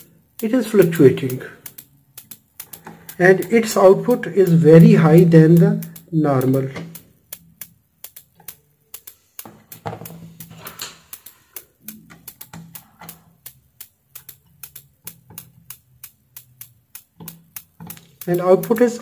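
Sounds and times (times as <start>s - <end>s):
electrical hum: 0.0s - 19.0s
power supply ticking: 0.0s - 19.0s.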